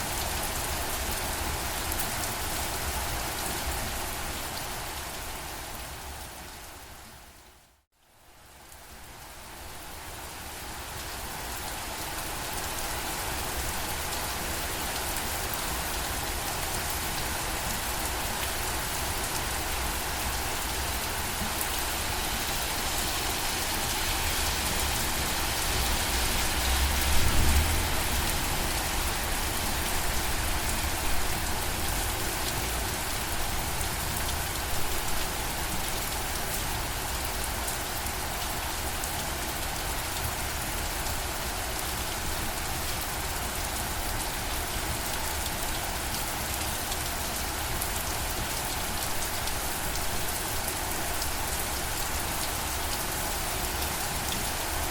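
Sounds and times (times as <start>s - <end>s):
steady rain patter: 0.0s - 54.9s.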